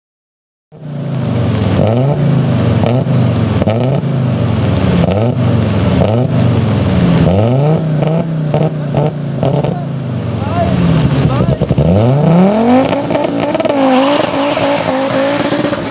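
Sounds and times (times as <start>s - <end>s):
rally car engine revving: 0.8s - 15.9s.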